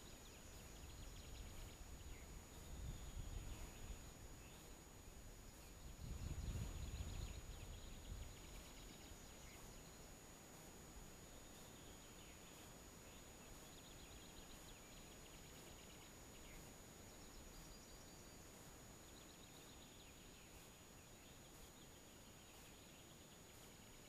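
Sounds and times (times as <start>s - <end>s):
distant songbirds chirping: 0.0s - 24.0s
low hiss: 0.0s - 24.0s.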